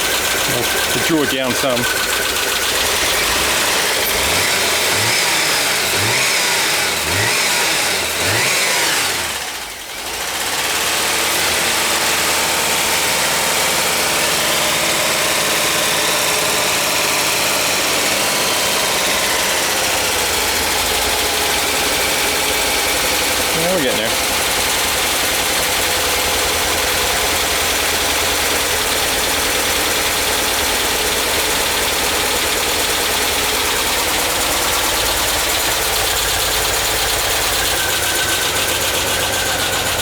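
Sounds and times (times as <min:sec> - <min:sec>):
rough tappy engine running: 0:00.0 - 0:40.0.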